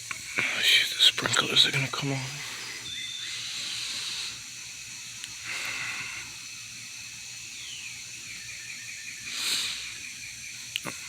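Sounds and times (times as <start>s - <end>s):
lawn sprinklers spraying water: 0.0s - 11.0s.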